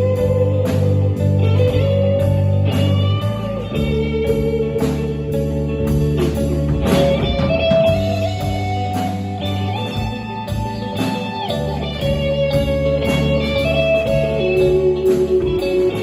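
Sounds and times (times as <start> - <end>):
bass guitar: 0.0 - 16.0
drums: 0.0 - 16.0
electric guitars: 0.0 - 16.0
gliding lead guitar notes: 0.0 - 16.0.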